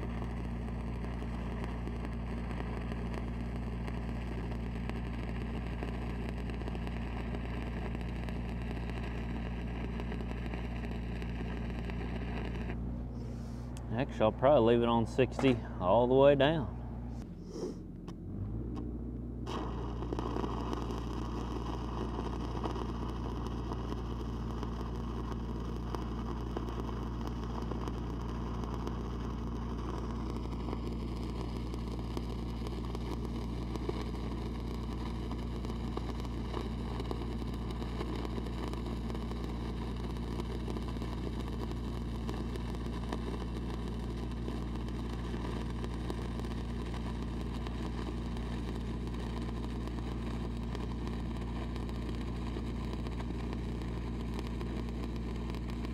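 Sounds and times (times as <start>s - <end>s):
arc welding crackle and hiss: 0.0s - 16.6s, 19.4s - 55.9s
welder engine running: 0.0s - 55.9s.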